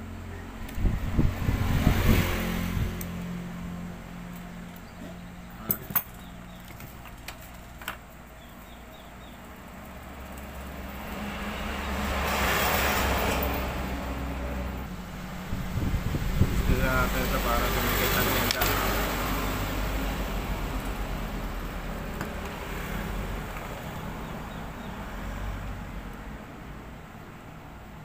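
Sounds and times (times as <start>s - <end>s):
low engine hum: 0.0s - 7.0s, 8.2s - 27.1s
vehicles passing: 0.0s - 28.0s.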